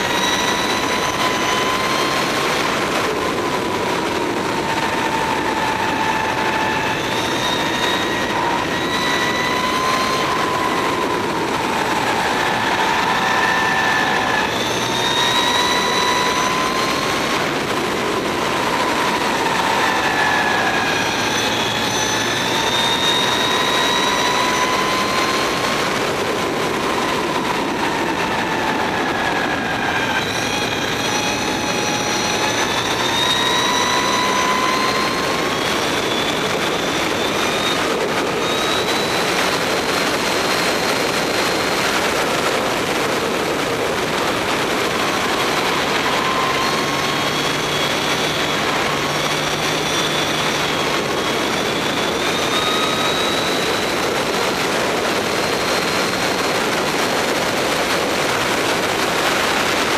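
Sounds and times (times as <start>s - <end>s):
electric motorcycle motor whining: 0.0s - 59.9s
wind and road noise: 0.0s - 59.9s.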